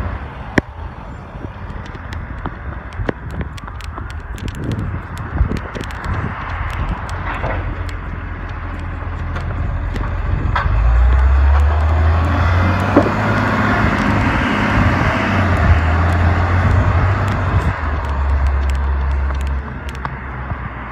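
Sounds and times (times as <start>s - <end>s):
garbage truck engine rumble: 0.0s - 20.9s.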